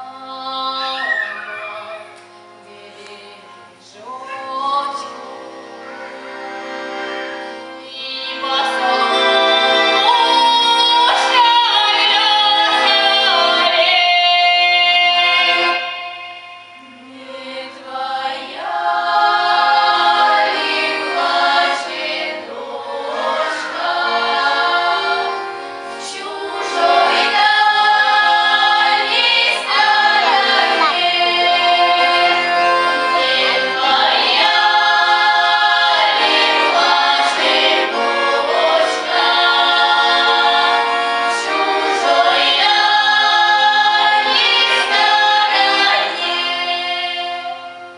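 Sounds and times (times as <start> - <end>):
folk choir singing: 0.0 - 47.9.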